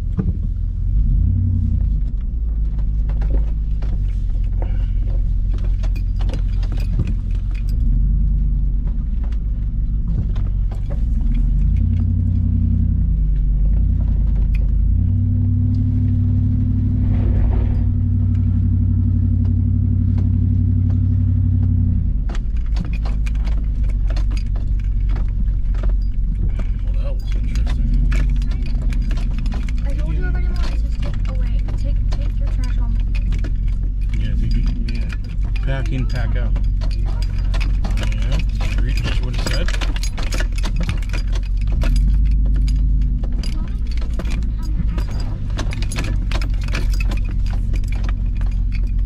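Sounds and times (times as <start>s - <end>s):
car engine running at low revs: 0.0s - 49.0s
loose items rattling: 2.6s - 49.0s.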